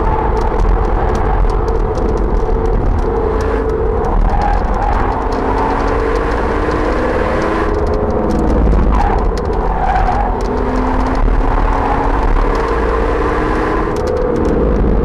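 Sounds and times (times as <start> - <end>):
car engine under hard driving: 0.0 - 15.0
road and tyre rumble: 0.0 - 15.0.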